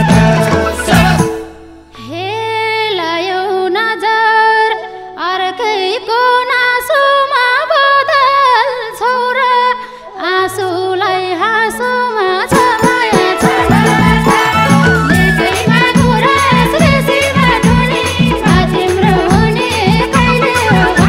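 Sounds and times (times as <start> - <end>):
woman singing folk song: 2.0 - 21.0.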